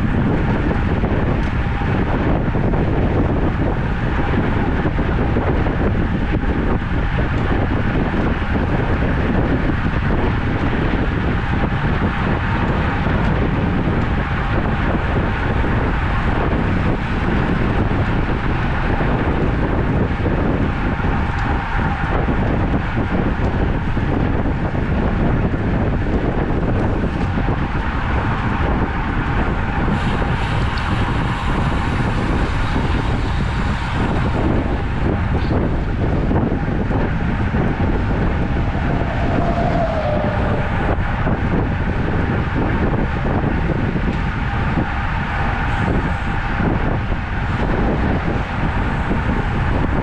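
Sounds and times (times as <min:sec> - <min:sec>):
road and tyre noise: 0:00.0 - 0:50.0
wind rush on microphone: 0:00.0 - 0:50.0.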